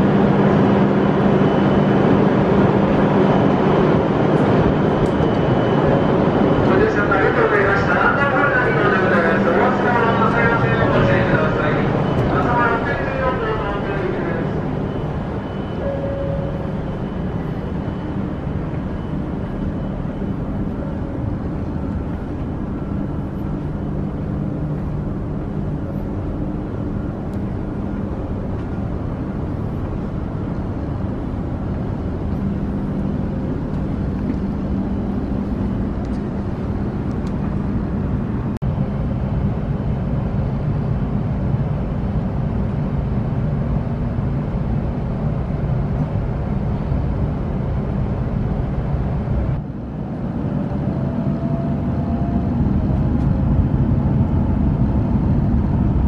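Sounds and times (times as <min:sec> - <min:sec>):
train cabin rumble with hum: 0:00.0 - 0:56.0.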